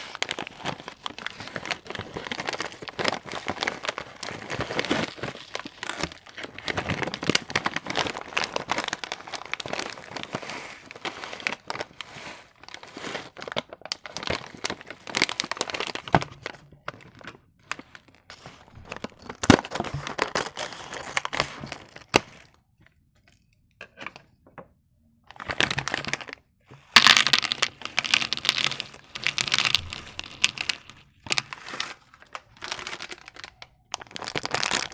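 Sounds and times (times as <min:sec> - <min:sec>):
candy wrappers crinkling and tearing: 0:00.0 - 0:23.5, 0:25.3 - 0:34.9.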